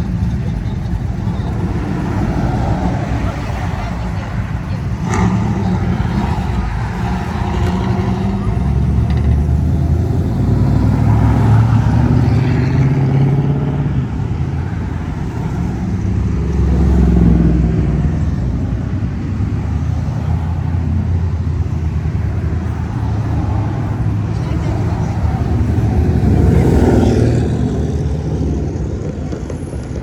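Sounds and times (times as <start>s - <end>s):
car engines rumbling past: 0.0s - 30.0s.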